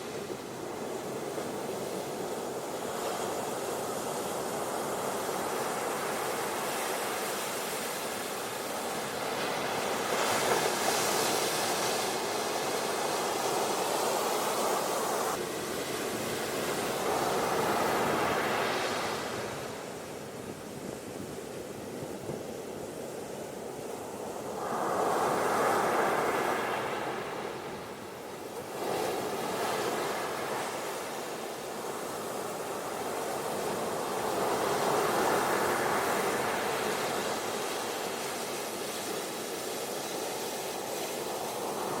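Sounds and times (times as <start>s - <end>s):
ocean waves on beach: 0.0s - 42.0s.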